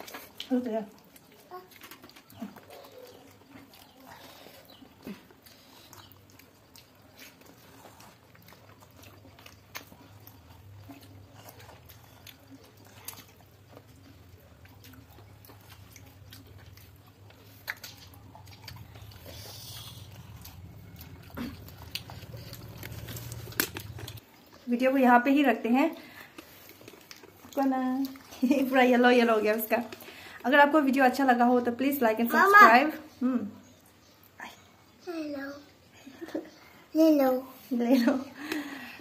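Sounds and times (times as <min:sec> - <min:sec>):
people chewing food: 0:00.0 - 0:39.0.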